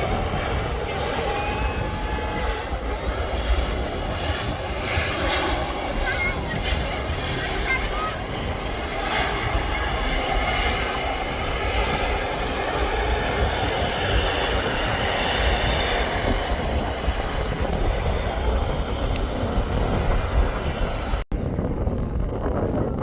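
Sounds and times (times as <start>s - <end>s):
high engine whine: 0.0s - 22.0s
airplane engines running: 0.0s - 23.0s.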